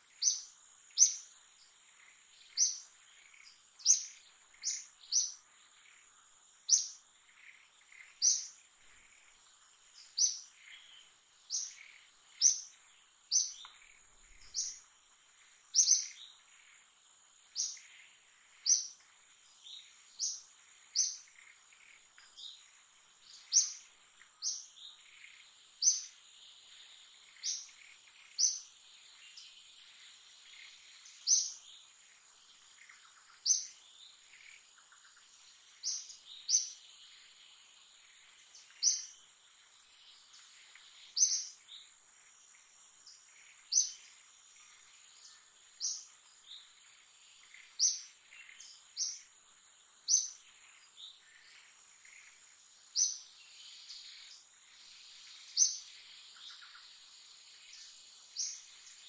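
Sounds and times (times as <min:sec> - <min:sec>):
bird chirping: 0:00.0 - 0:59.0
insect drone: 0:00.0 - 0:59.0.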